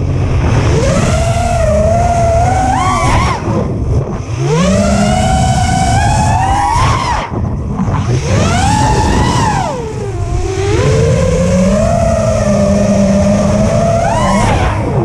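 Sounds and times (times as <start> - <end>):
drone motors whining: 0.0 - 15.0
low rumble: 0.0 - 15.0.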